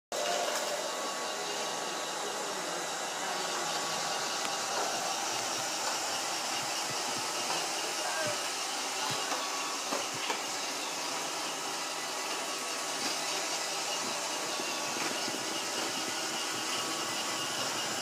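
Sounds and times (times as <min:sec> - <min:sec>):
robot vacuum whirring: 0:00.2 - 0:18.0.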